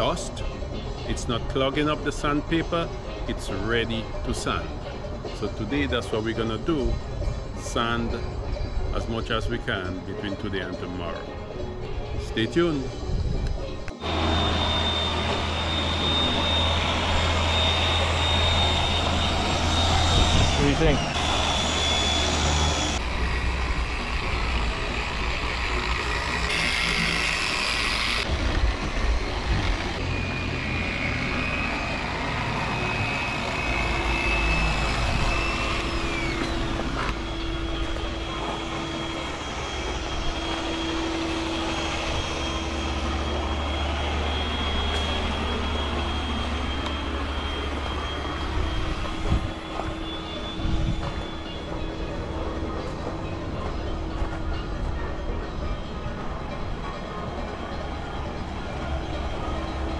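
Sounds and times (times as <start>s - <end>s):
power sanders whining: 0.0s - 59.9s
low hum: 11.1s - 59.9s.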